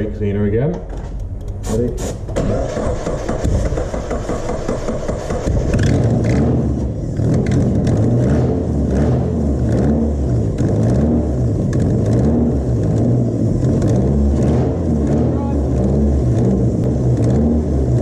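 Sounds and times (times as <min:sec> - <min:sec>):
car engine revving and surging: 0:02.4 - 0:18.0.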